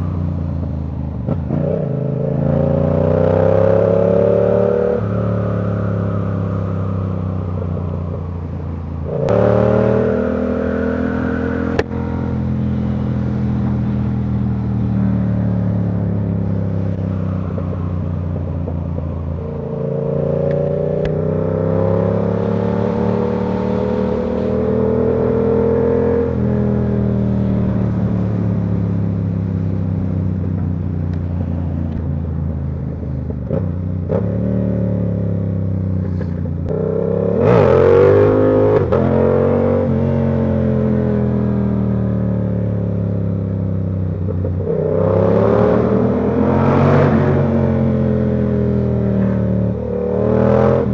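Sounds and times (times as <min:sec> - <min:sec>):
motorcycle engine revving: 0:01.2 - 0:08.0, 0:09.0 - 0:32.6, 0:33.3 - 0:50.9.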